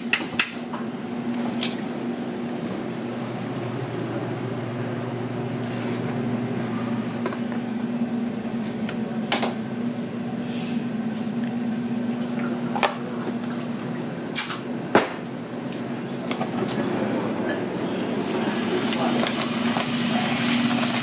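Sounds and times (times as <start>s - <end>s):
kitchen machinery hum: 0.0s - 21.0s.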